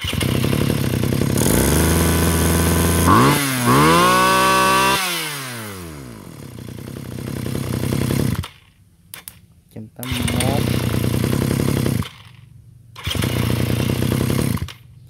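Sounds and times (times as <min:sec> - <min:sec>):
small grass-cutter engine revving: 0:00.0 - 0:08.6, 0:10.0 - 0:12.4, 0:13.0 - 0:14.9.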